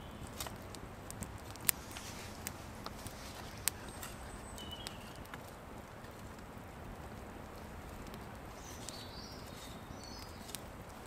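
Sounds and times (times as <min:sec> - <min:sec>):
campfire crackling: 0:00.0 - 0:11.0
sharp fire pops: 0:00.0 - 0:11.0.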